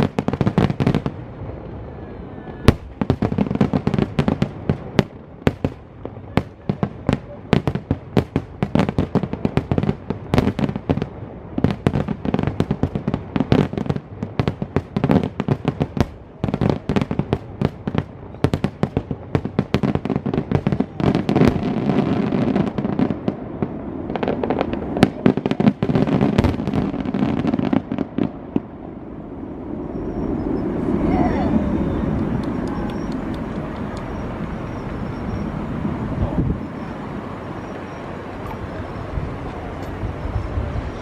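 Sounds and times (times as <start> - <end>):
fireworks crackling bangs: 0.0 - 41.0
rumble of fireworks bursts: 0.0 - 41.0.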